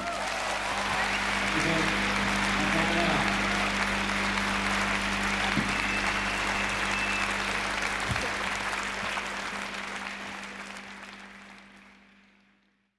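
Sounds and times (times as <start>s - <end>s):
audience applause: 0.0s - 12.6s
low hum: 0.0s - 12.7s.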